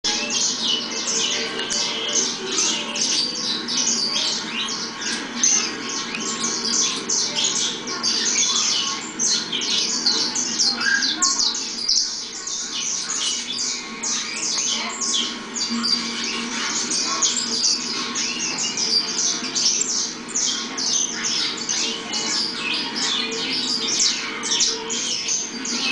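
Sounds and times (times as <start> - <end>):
finches chirping: 0.1 - 25.9.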